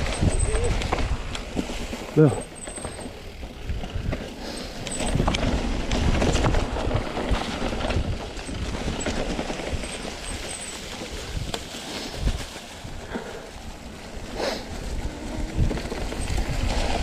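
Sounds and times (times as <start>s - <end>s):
bike knocking and rattling: 0.0s - 17.0s
bike tyres rumbling on dirt: 0.0s - 17.0s.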